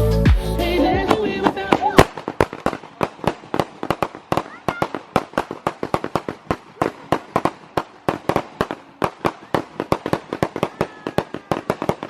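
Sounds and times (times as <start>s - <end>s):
firecrackers cracking: 0.4s - 12.0s.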